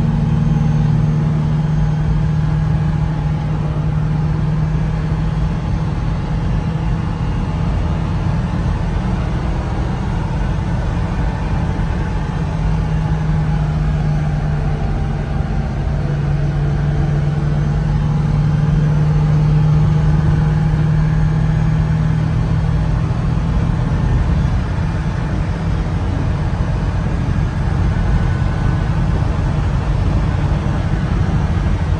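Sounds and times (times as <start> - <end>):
road and tyre noise: 0.0 - 31.9
small engine droning in cab: 0.0 - 31.9.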